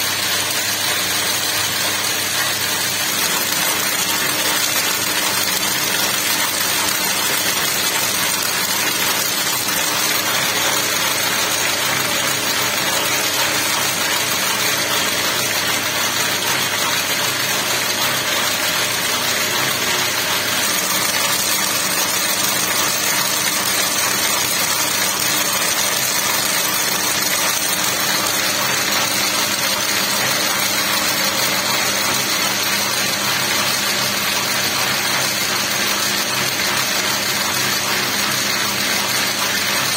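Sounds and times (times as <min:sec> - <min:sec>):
braiding machine whirring: 0:00.0 - 0:39.9.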